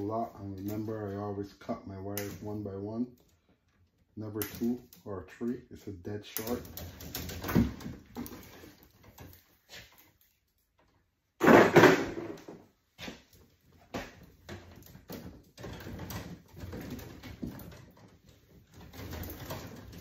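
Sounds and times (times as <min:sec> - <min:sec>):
wires rustling and knocking: 0:00.0 - 0:05.6, 0:06.3 - 0:20.0.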